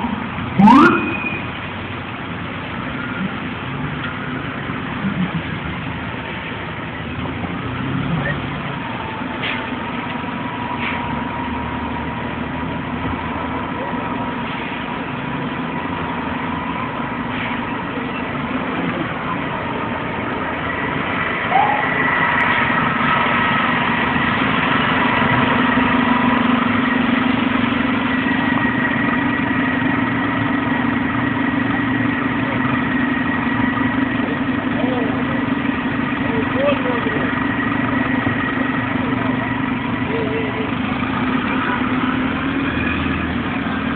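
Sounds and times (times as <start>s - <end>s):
large vehicle engine idling: 0.0s - 43.9s
street traffic: 0.0s - 43.9s.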